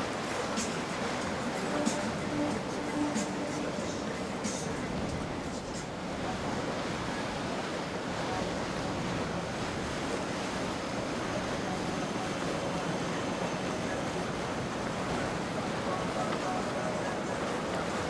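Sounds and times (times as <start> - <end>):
rushing water: 0.0 - 18.0
wind: 0.0 - 18.0.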